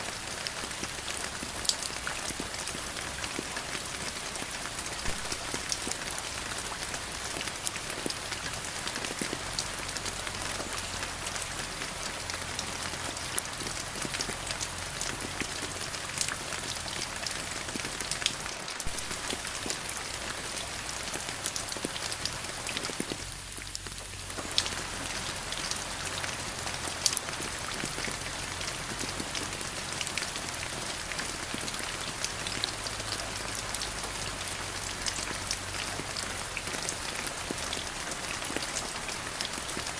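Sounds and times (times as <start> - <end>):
raindrops hitting close by: 0.0 - 39.9
steady rain falling: 0.0 - 39.9.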